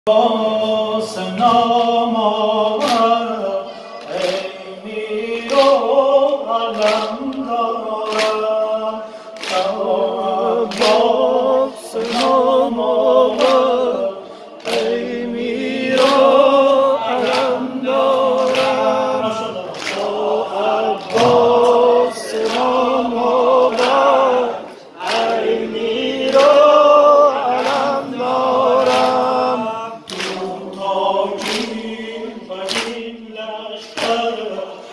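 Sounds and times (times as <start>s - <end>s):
crowd chanting in unison: 0.1s - 34.9s
man singing lament into microphone: 0.1s - 34.9s
rhythmic sharp slaps: 0.3s - 34.9s.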